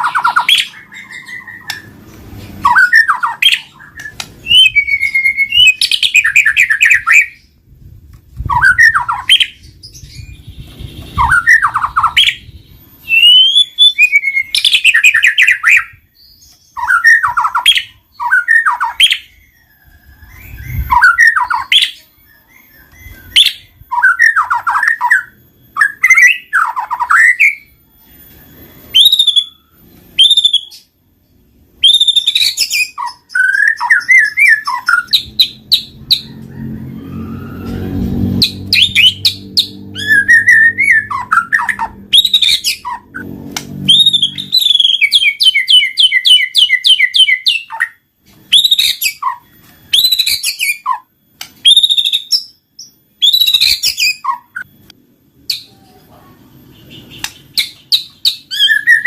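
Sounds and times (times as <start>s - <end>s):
bird singing whistles and trills: 0.0s - 7.6s, 8.4s - 37.2s, 38.2s - 54.8s, 56.7s - 59.0s.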